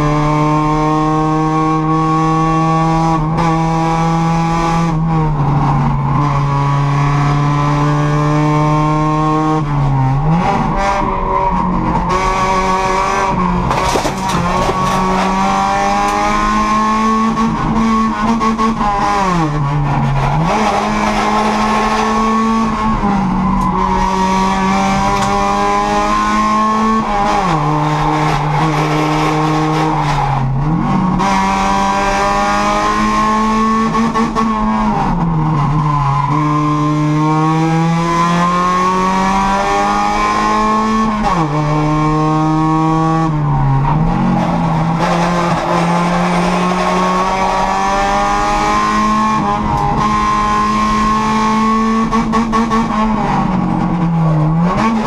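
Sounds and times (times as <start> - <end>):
car engine under full throttle: 0.0 - 55.0.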